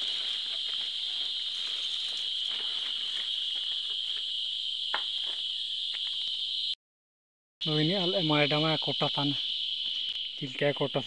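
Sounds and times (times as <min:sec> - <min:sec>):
high-pitched insect drone: 0:00.0 - 0:06.8, 0:07.6 - 0:11.0.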